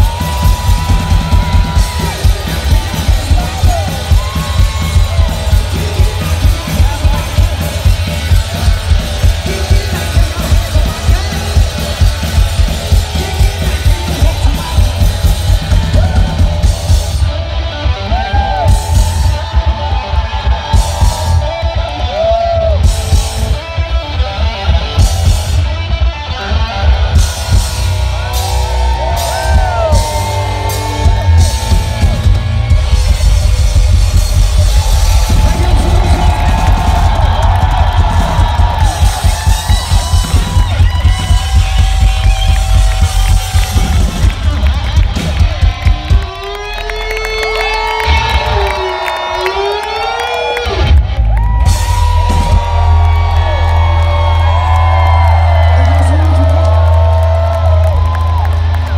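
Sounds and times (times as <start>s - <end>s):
drum kit played fast: 0.0s - 58.9s
electric guitar lead lines: 0.0s - 58.9s.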